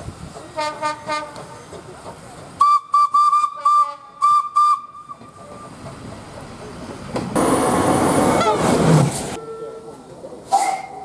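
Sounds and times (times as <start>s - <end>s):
passing train rushing: 0.0s - 11.0s.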